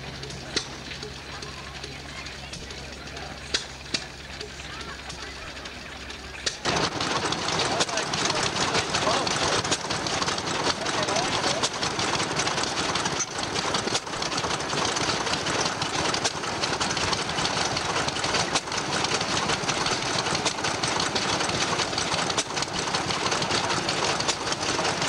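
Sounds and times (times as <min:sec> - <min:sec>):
stationary engine running: 0:00.0 - 0:25.0.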